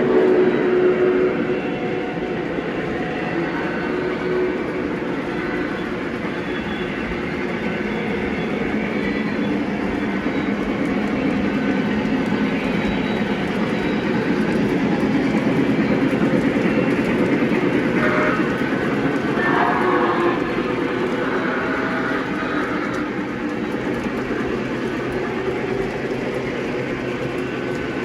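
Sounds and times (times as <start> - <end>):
wheels rumbling on track: 0.0 - 28.0.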